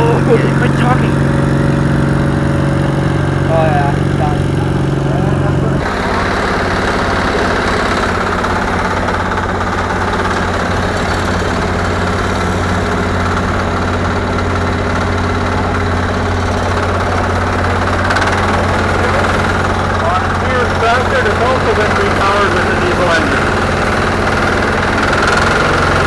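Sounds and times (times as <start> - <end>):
higher faster engine note: 0.0 - 26.0
tractor engine idling: 0.0 - 26.0.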